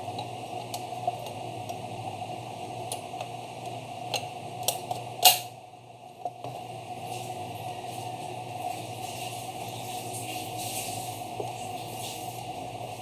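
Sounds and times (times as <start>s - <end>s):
steady hiss and hum: 0.0s - 13.0s.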